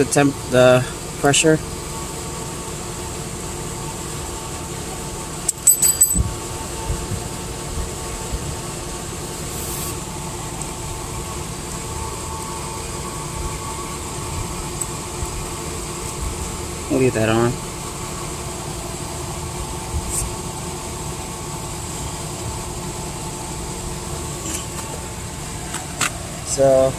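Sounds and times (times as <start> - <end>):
engine idling hum: 0.0 - 26.9.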